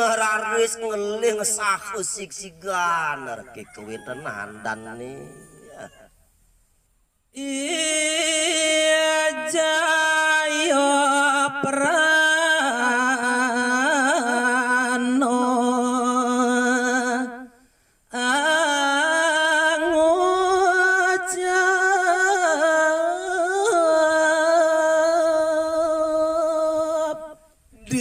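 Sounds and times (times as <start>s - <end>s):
man singing unaccompanied: 0.0s - 5.9s, 7.3s - 28.0s.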